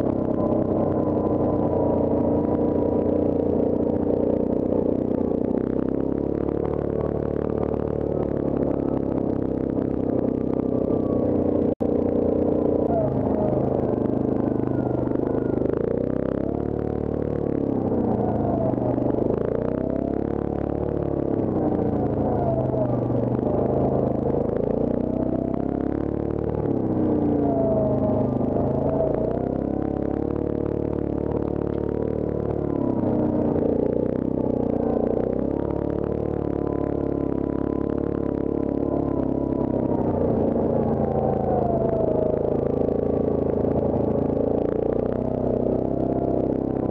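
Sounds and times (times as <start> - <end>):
quad bike engine running: 0.0 - 46.9.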